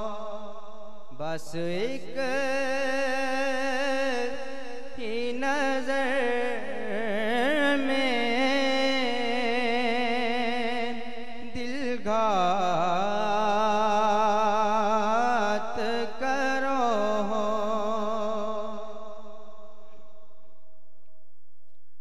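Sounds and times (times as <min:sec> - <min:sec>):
man singing into a microphone: 0:00.0 - 0:20.3.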